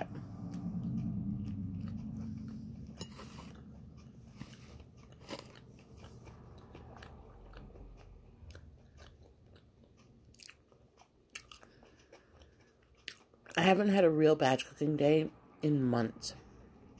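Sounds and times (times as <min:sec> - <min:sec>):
person chewing bagel: 0:00.0 - 0:13.6.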